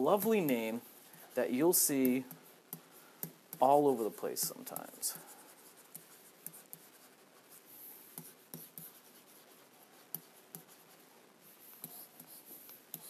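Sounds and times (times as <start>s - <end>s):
marker writing on a whiteboard: 0.0s - 13.0s.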